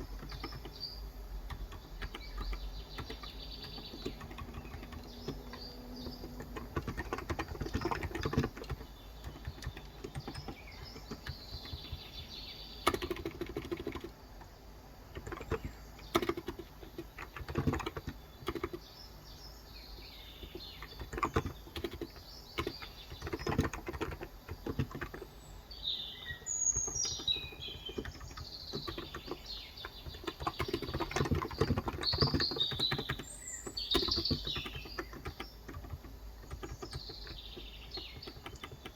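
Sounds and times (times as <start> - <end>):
keyboard typing: 0.0 - 19.3, 20.4 - 25.4, 26.4 - 38.9
small birds chirping: 0.0 - 38.9.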